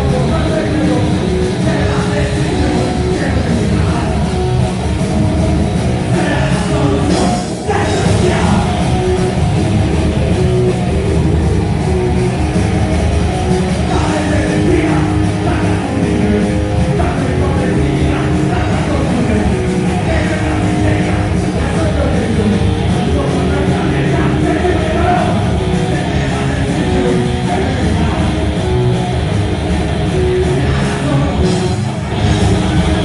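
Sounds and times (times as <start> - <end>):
heavy rock band playing: 0.0 - 33.0.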